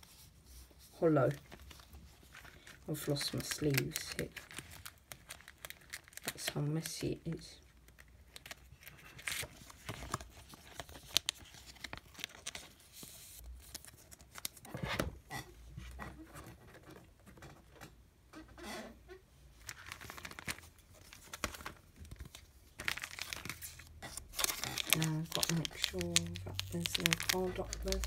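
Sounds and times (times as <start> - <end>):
plastic sleeves rustling: 0.0 - 15.0, 19.5 - 28.0.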